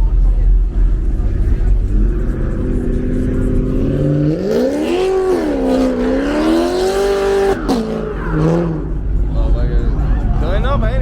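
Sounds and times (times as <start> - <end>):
car engine revving: 0.1 - 11.0.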